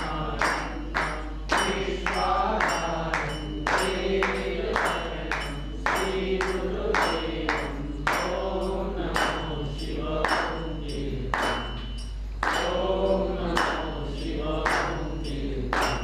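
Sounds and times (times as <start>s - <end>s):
group devotional singing: 0.0s - 16.0s
ringing metal strikes: 0.0s - 16.0s.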